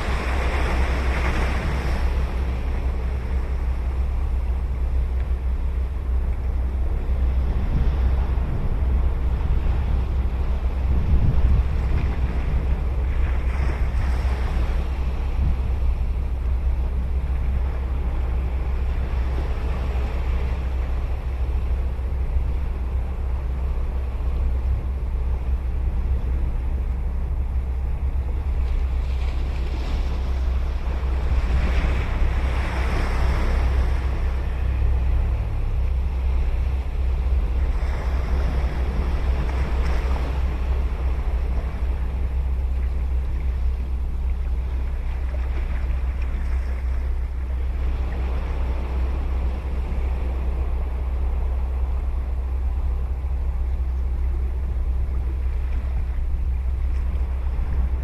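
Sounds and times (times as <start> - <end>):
ocean waves breaking: 0.0 - 58.0
wind rumble on microphone: 0.0 - 58.0.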